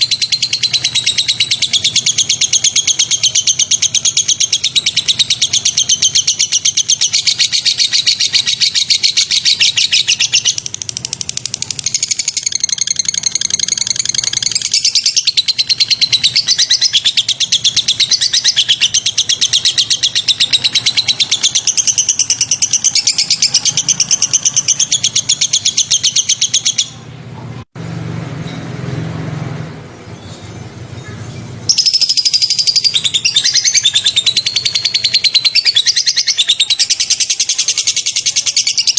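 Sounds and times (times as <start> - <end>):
songbird singing: 0.0 - 27.5, 30.0 - 38.9.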